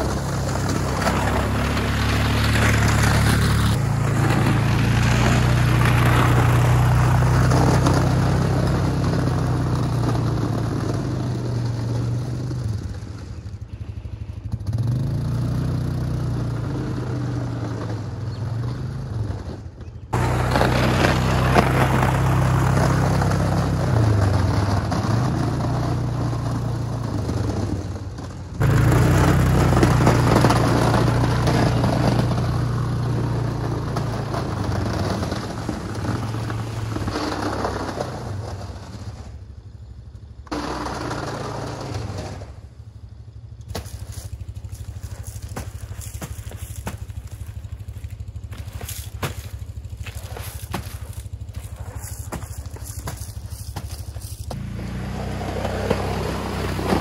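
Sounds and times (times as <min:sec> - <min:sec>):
atv engine running under load: 0:00.0 - 0:57.0
plow blade scraping snow: 0:00.0 - 0:57.0.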